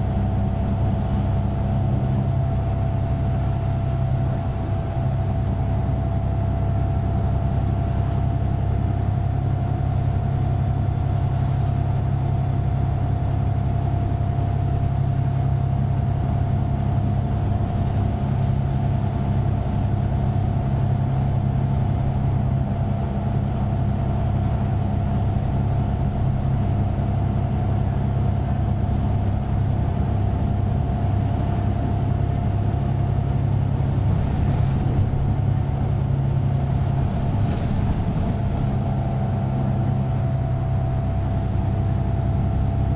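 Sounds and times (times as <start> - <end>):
bus engine rumble with whine: 0.0 - 42.9.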